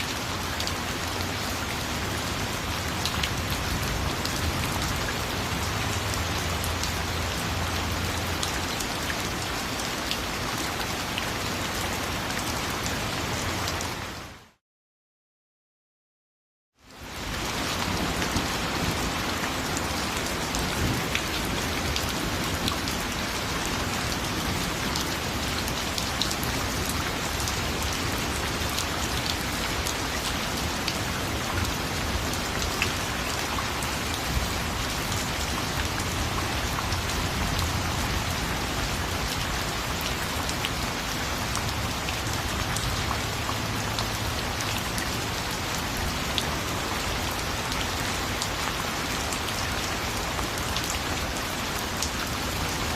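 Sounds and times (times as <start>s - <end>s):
rain pattering on a surface: 0.0s - 14.6s, 16.8s - 52.9s.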